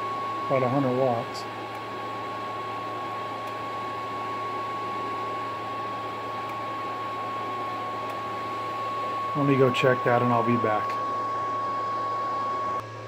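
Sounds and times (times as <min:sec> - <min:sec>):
cooling fan whirring: 0:00.0 - 0:13.0
high whine: 0:00.0 - 0:13.0
low hum: 0:00.0 - 0:13.0.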